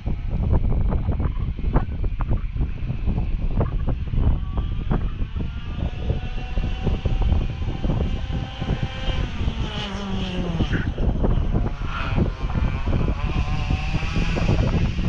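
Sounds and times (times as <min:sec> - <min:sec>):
wind buffeting microphone: 0:00.0 - 0:15.0
engine drone passing: 0:01.6 - 0:15.0.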